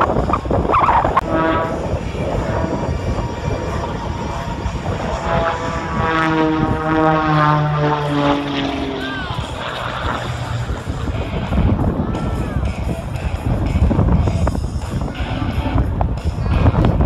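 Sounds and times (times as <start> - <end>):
propeller plane droning overhead: 0.0 - 17.0.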